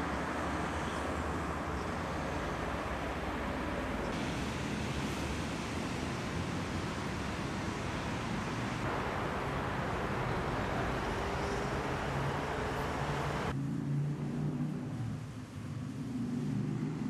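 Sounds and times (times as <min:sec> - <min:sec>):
distant road traffic hiss: 0:00.0 - 0:17.0
low engine hum: 0:00.0 - 0:17.0.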